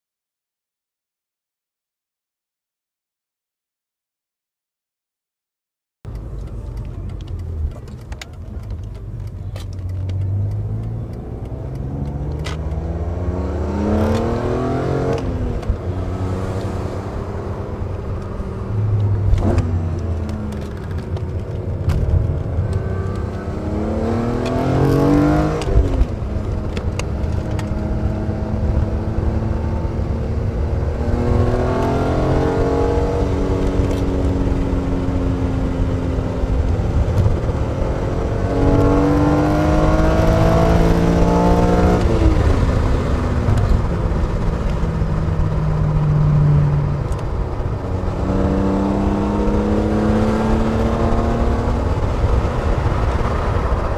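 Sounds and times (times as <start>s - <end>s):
car engine accelerating: 6.1s - 53.9s.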